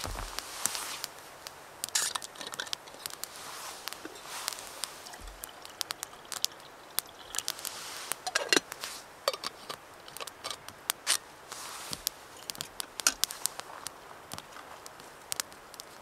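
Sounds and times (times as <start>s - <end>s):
faint steady hiss: 0.0s - 16.0s
wood fire crackling and popping: 0.0s - 16.0s.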